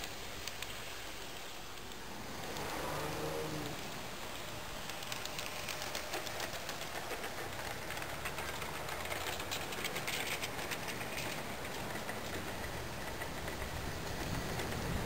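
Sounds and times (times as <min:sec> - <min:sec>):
model train cars rolling: 0:00.0 - 0:15.0.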